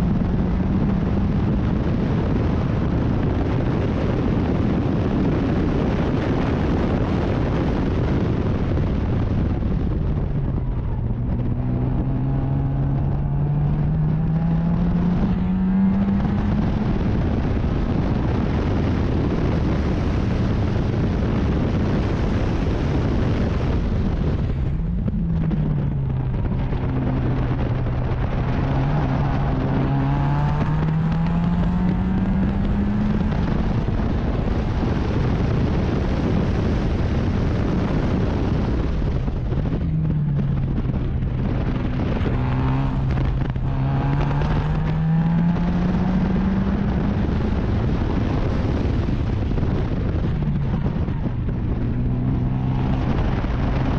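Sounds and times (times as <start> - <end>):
heavy wind: 0.0 - 53.9
race car engine: 0.0 - 53.9
road rumble: 0.0 - 53.9.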